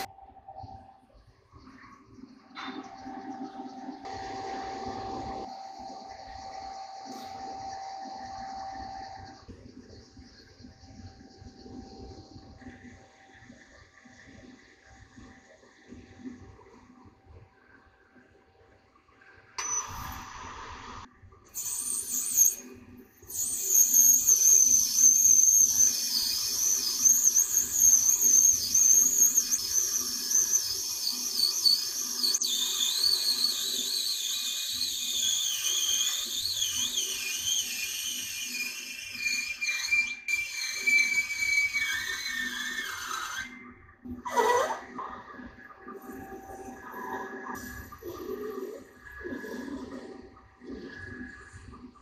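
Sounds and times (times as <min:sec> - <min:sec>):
lathe high wavering whistle: 0:00.0 - 0:00.9, 0:02.7 - 0:13.4, 0:19.6 - 0:51.9.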